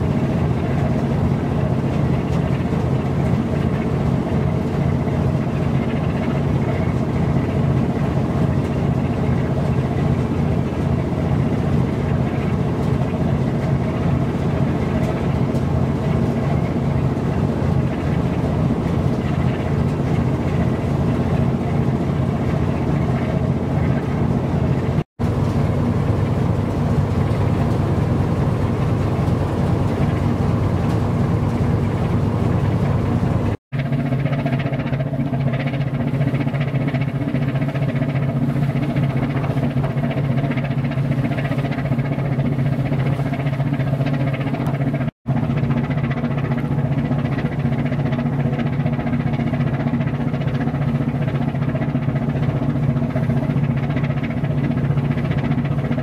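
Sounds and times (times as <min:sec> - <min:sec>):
low engine drone: 0:00.0 - 0:56.0.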